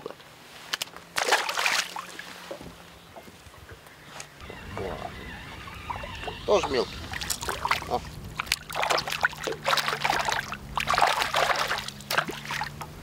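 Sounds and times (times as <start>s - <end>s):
water splashing and sloshing: 0.0s - 13.0s
steady low hum: 2.1s - 13.0s.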